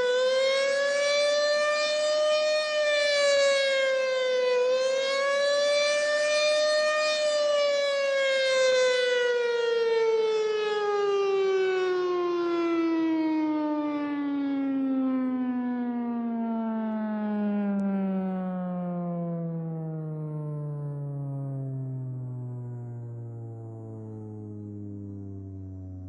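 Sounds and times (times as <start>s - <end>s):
warning siren winding down: 0.0s - 26.0s.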